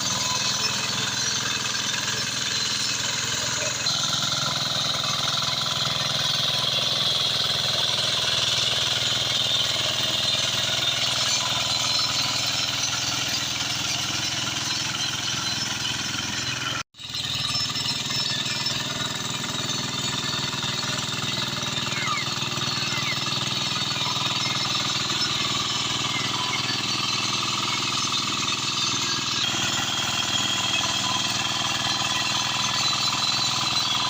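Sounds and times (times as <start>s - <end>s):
walk-behind tractor engine chugging: 0.0s - 34.0s.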